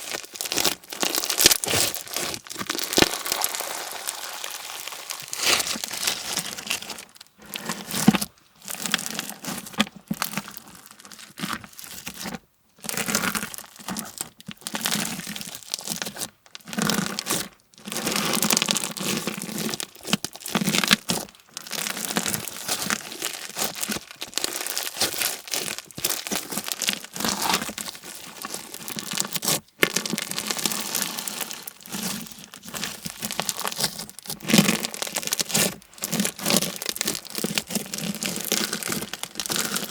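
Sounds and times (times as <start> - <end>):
slime crackling and crunching: 0.0 - 39.9.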